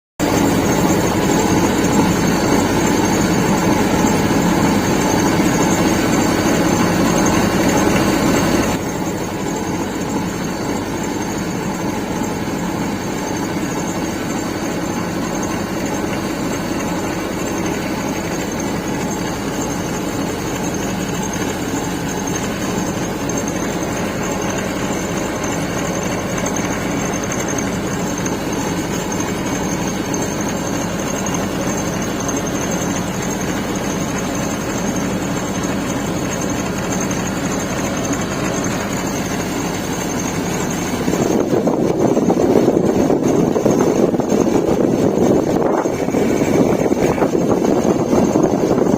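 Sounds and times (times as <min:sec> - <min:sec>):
air conditioner compressor humming: 0:00.2 - 0:48.9.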